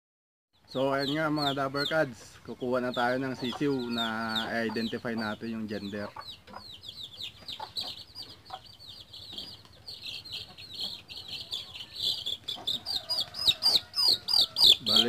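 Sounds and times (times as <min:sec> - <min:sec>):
chicks peeping: 0:00.6 - 0:15.0.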